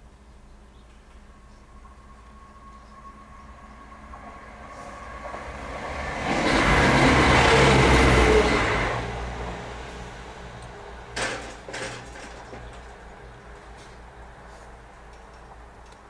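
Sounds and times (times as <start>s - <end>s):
train passing: 0.5s - 16.0s.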